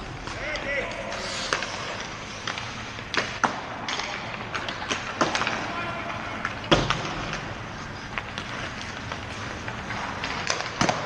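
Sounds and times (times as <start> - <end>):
skate blades scraping ice: 0.0 - 11.0
hockey sticks and pucks knocking: 0.1 - 11.0.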